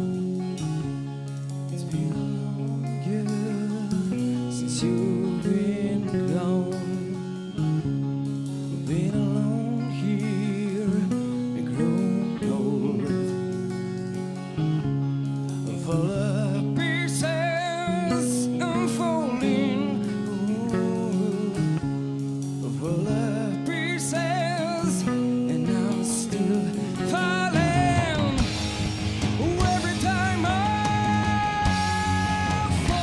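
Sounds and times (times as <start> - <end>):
electric guitar chords: 0.0 - 33.0
man singing with vibrato: 1.7 - 7.8, 8.6 - 14.0, 15.7 - 33.0.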